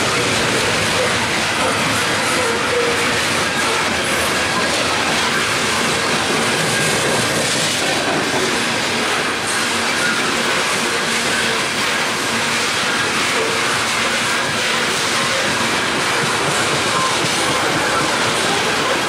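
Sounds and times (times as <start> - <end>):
freight train rumble: 0.0 - 19.0.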